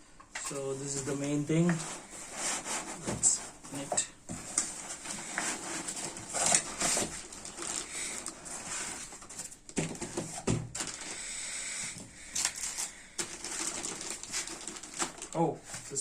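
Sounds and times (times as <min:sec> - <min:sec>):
packaging rustling: 0:00.4 - 0:16.0.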